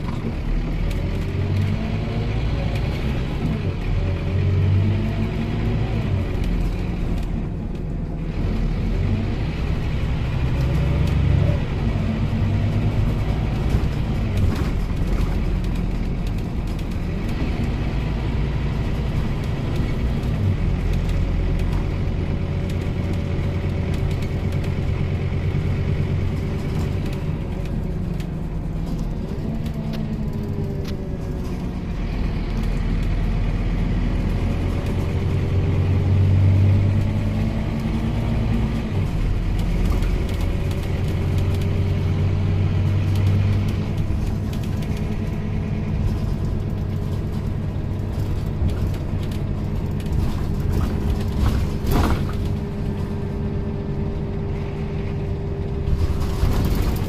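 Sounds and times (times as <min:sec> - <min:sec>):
bus engine: 0:00.0 - 0:57.0.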